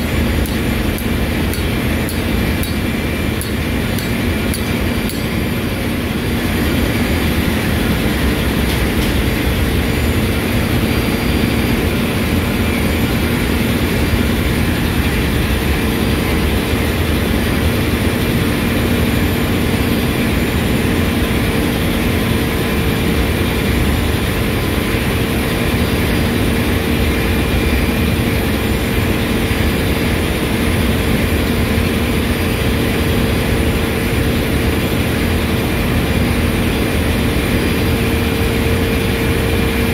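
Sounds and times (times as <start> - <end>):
centrifugal separator hum: 0.0 - 39.9
engine room machinery drone: 0.0 - 39.9.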